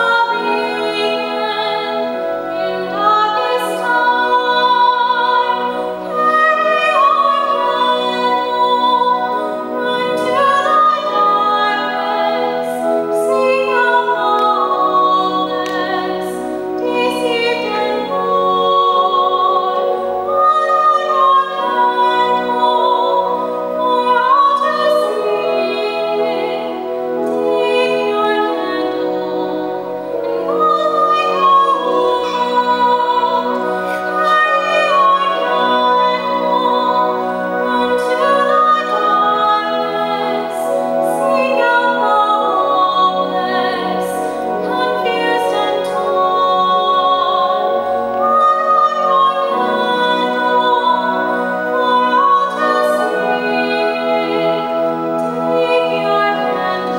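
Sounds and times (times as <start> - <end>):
pipe organ chords: 0.0 - 56.9
woman singing gospel song: 0.0 - 56.9.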